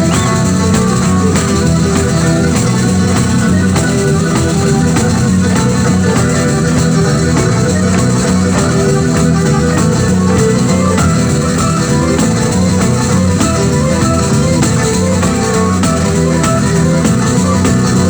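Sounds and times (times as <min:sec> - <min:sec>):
driving percussion: 0:00.0 - 0:18.0
folk dance band playing: 0:00.0 - 0:18.0
plucked strings: 0:00.0 - 0:18.0.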